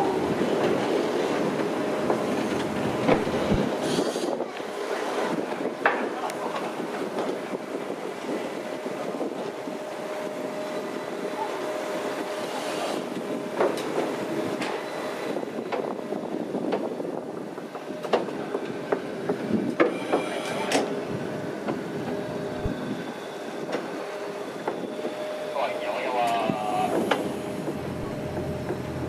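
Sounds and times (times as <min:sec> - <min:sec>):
steam locomotive rumbling: 0:00.0 - 0:29.0.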